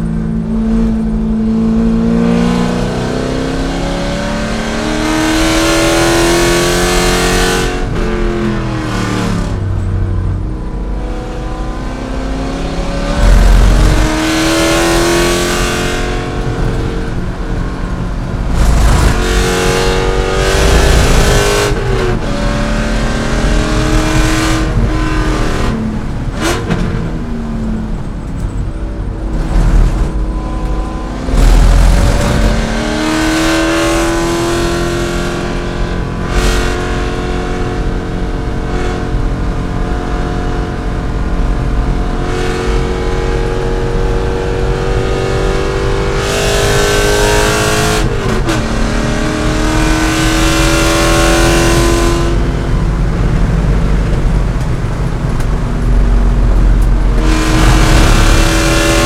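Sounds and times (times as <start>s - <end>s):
car engine revving hard: 0.0s - 9.8s, 10.5s - 59.0s.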